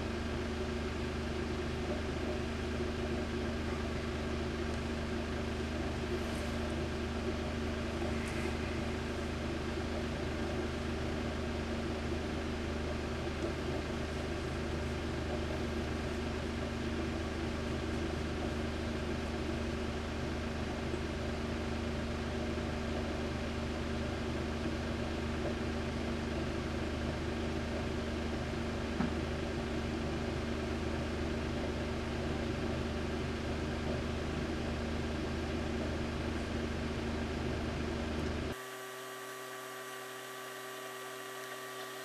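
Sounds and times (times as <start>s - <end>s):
electrical hum: 0.0s - 42.0s.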